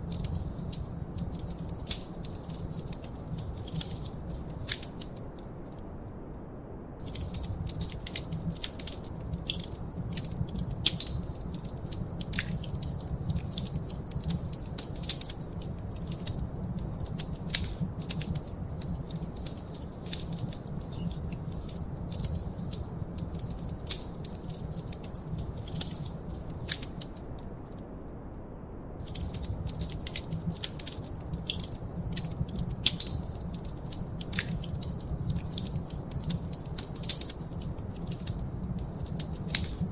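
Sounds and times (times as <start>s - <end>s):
wood fire crackling: 0.0s - 5.9s, 7.0s - 27.9s, 29.0s - 39.9s.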